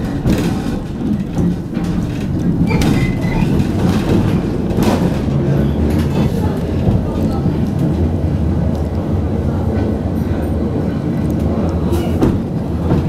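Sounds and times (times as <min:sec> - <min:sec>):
tram wheels rumbling on rail: 0:00.0 - 0:13.0.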